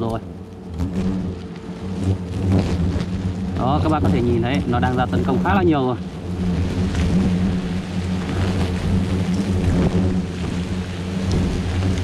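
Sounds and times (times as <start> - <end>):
hornets buzzing: 0.0 - 12.0.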